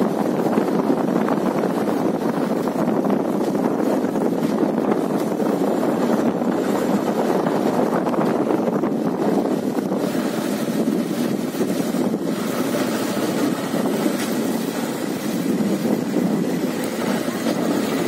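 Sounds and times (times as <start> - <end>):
motorbike engine and road noise: 0.0 - 18.0
wind on microphone: 0.0 - 18.0.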